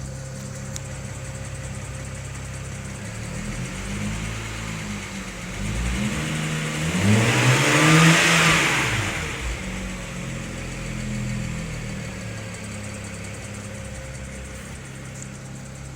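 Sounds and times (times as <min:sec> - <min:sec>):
car engine idling and revving: 0:00.0 - 0:15.9.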